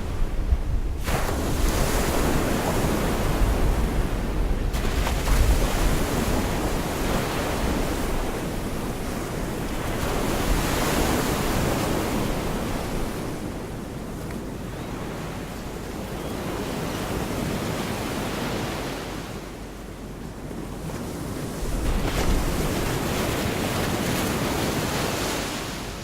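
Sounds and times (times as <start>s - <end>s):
waves breaking on a beach: 0.0s - 26.0s
wind rumbling on microphone: 0.0s - 26.0s.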